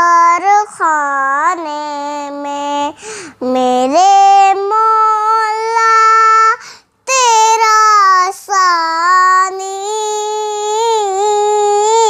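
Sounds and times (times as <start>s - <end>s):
girl singing unaccompanied: 0.0s - 12.0s.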